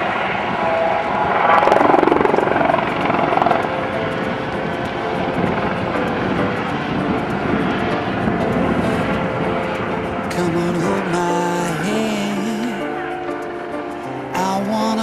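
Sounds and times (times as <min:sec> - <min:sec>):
helicopters flying overhead: 0:00.0 - 0:15.0.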